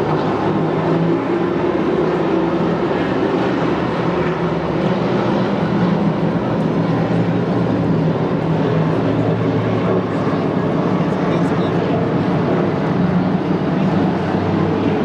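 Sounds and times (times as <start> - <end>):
race truck engines: 0.0 - 15.0.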